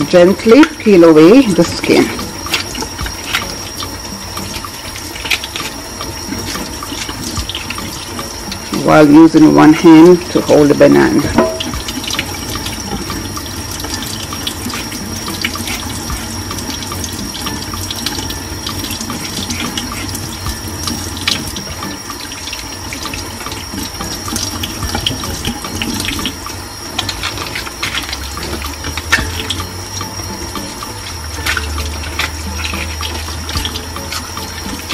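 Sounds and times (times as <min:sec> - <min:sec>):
tap water running into sink: 0:00.0 - 0:34.9.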